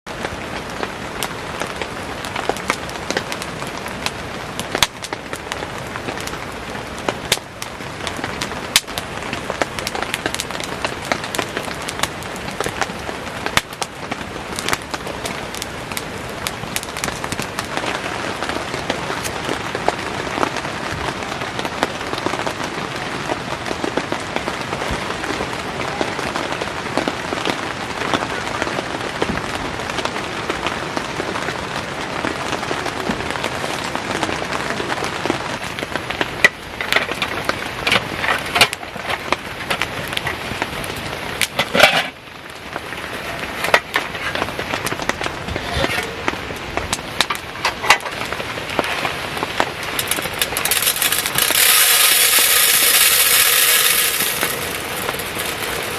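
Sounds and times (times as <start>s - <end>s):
campfire popping and crackling: 0.1s - 55.9s
heavy rain falling: 0.1s - 55.9s.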